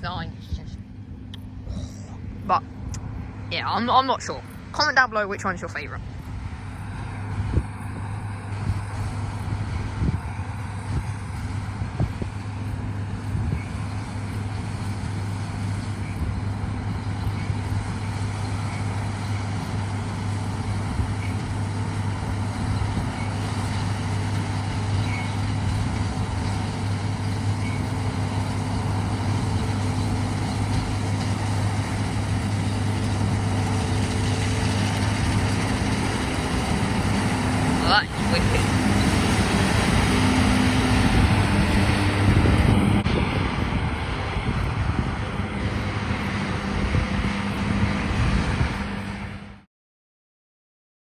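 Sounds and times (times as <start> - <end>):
diesel engine running: 0.0 - 49.7.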